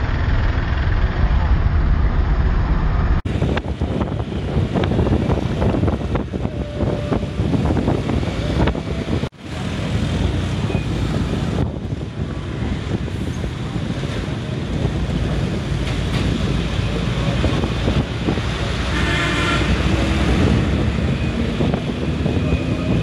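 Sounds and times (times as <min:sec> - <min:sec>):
engine and tyre noise: 0:00.0 - 0:23.0
wind rushing over microphone: 0:00.9 - 0:23.0.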